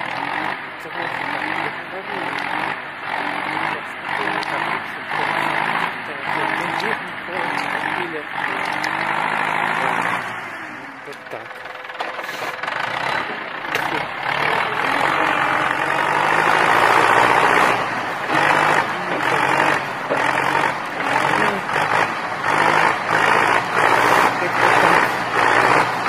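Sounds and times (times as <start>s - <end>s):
tractor diesel engine straining: 0.0s - 26.0s.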